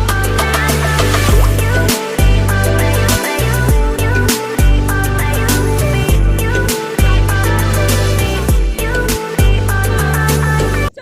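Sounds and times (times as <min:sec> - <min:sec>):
music with deep bass and drums: 0:00.0 - 0:10.9.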